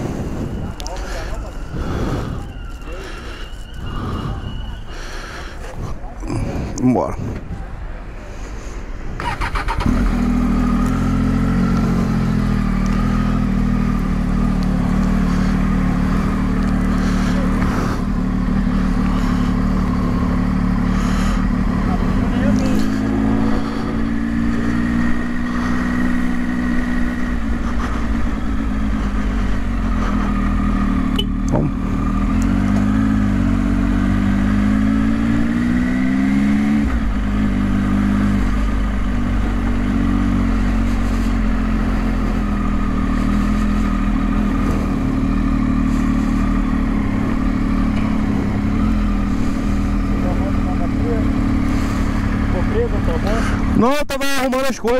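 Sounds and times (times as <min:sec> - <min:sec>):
motorcycle engine running: 0:09.2 - 0:54.0.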